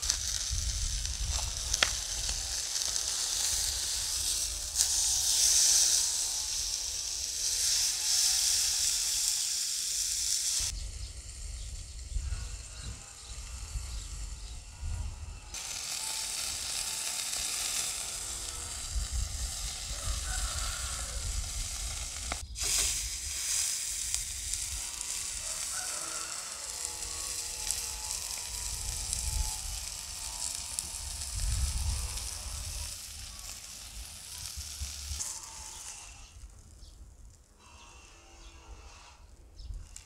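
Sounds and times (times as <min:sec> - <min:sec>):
meat sizzling on grill pan: 0:00.0 - 0:12.6, 0:15.6 - 0:36.2.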